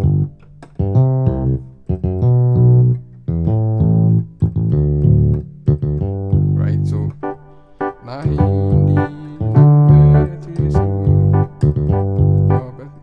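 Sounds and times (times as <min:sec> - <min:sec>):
keyboard bass line under chords: 0:00.0 - 0:13.0.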